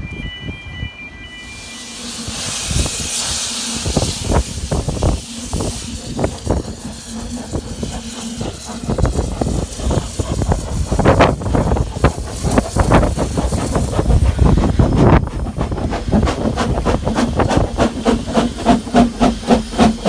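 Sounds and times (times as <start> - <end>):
steam locomotive running slowly: 0.0 - 20.0
steam hissing: 1.2 - 20.0.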